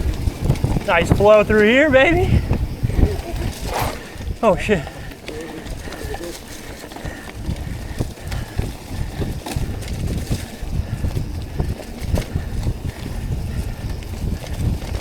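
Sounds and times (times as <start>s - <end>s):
bike rattling and knocking: 0.0s - 15.0s
bike tyres rumbling on dirt: 0.0s - 15.0s
wind buffeting microphone: 0.0s - 15.0s.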